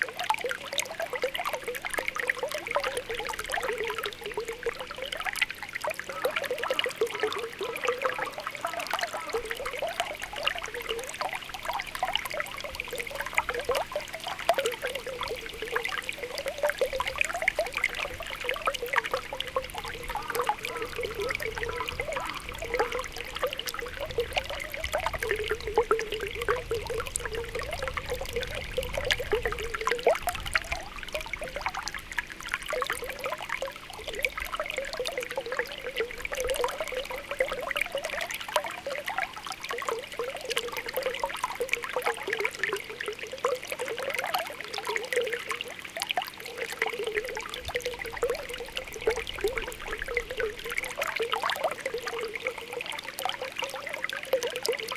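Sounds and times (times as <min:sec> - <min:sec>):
spring water bubbling and trickling: 0:00.0 - 0:54.9.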